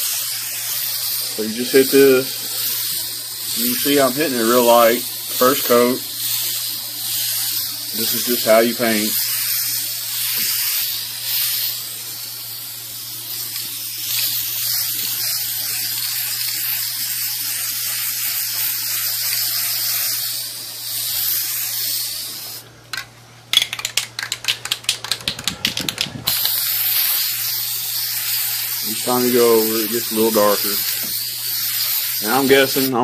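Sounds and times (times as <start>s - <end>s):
spray paint can hissing: 0.0s - 22.7s, 23.6s - 33.0s
spray can rattling: 0.0s - 33.0s.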